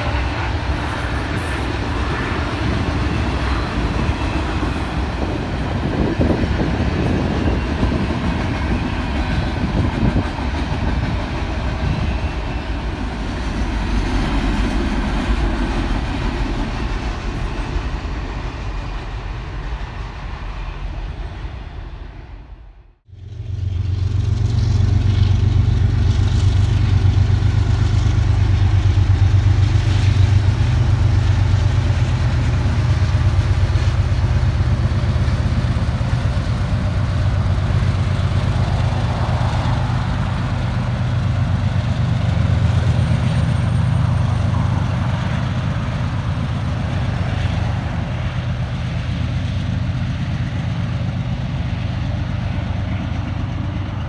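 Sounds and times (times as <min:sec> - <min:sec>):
diesel locomotive engines droning: 0:00.0 - 0:54.0.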